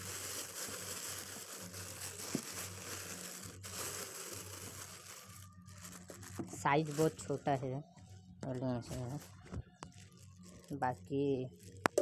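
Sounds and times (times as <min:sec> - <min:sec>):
plastic bag crinkling: 0:00.0 - 0:07.5, 0:08.8 - 0:12.0.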